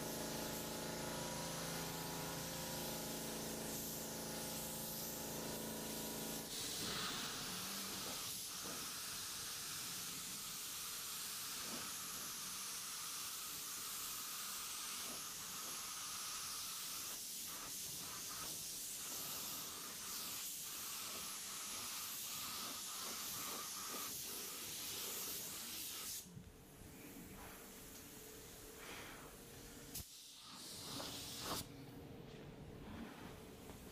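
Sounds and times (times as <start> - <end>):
paint spray gun hissing: 0.0 - 26.3, 29.9 - 31.7.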